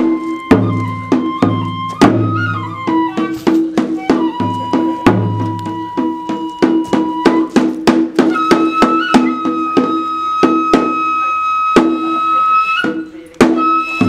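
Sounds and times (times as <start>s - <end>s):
bamboo flute high note: 0.0s - 14.0s
drum strokes: 0.0s - 14.0s.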